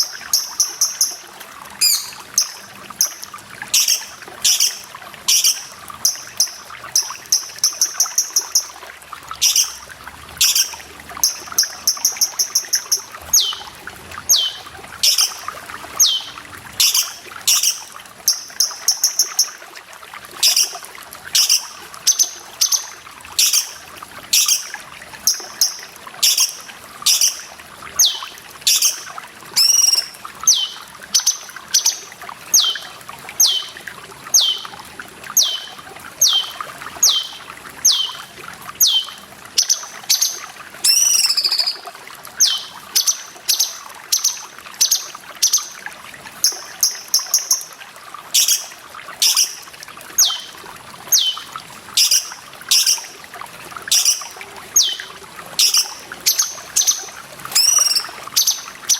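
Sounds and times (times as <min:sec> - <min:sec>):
bird calling and chattering: 0:00.0 - 0:08.8, 0:09.4 - 0:19.6, 0:20.4 - 0:24.7, 0:25.3 - 0:45.8, 0:46.4 - 0:47.7, 0:48.4 - 0:49.6, 0:50.2 - 0:53.1, 0:53.9 - 0:58.9
running water trickling: 0:00.0 - 0:58.9.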